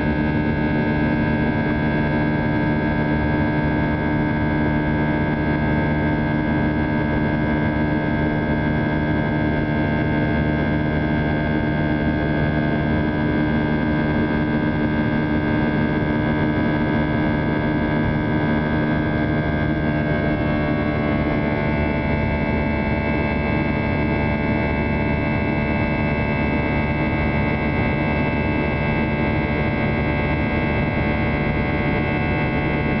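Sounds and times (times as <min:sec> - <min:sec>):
jet engine drone: 0:00.0 - 0:33.0.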